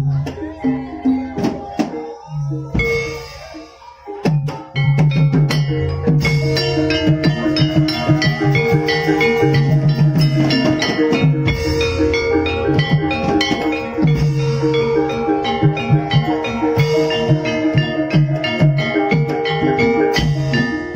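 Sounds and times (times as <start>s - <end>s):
drums: 0.0s - 20.9s
gamelan music: 0.0s - 20.9s
struck metallophones and gongs: 2.0s - 20.9s.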